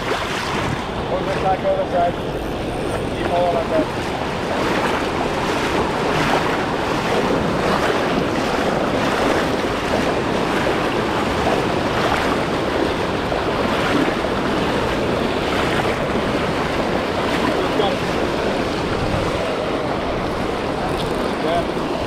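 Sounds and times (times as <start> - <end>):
river rapids rushing: 0.0 - 22.0.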